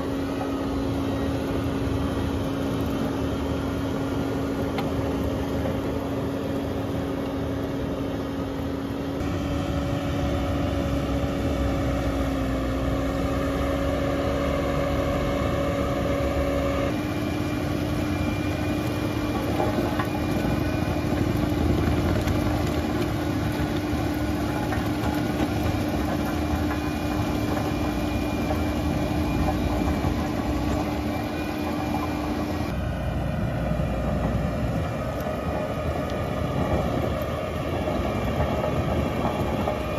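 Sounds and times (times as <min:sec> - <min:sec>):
diesel engine rumble: 0:00.0 - 0:39.9
mulcher rotor whine: 0:00.0 - 0:39.9.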